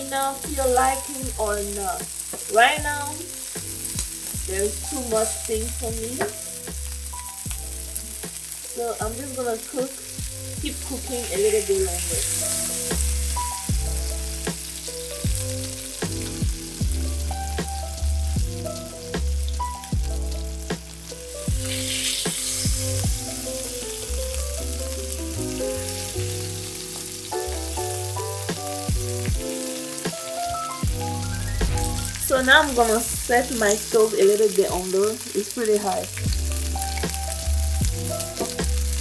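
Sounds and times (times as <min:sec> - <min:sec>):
background music with beat: 0:00.0 - 0:39.0
steaks sizzling in a frying pan: 0:00.0 - 0:39.0.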